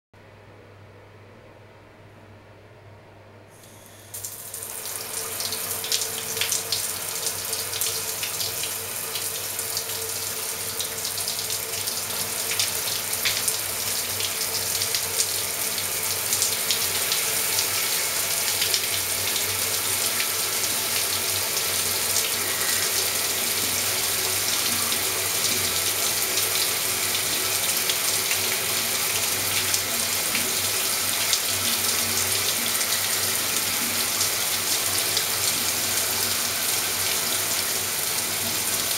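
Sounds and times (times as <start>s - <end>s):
shower water spraying: 3.6s - 38.9s.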